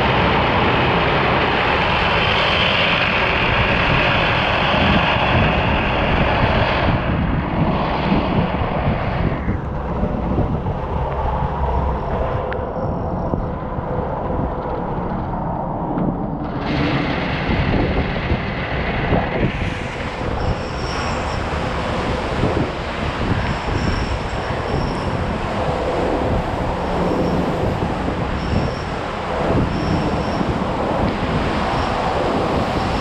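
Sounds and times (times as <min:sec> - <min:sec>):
low machinery hum: 0:00.0 - 0:33.0.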